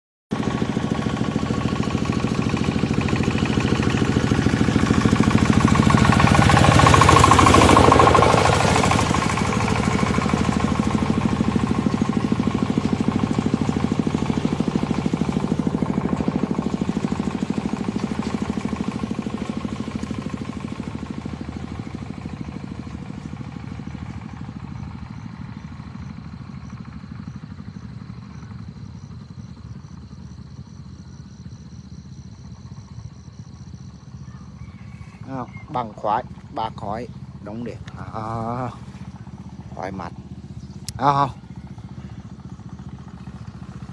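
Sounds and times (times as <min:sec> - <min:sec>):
motor engine running: 0:00.3 - 0:43.9.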